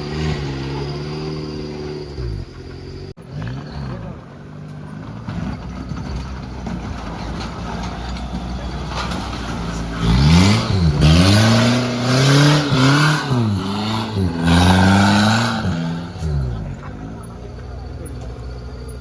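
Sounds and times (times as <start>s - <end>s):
off-road engine revving: 0.0s - 19.0s.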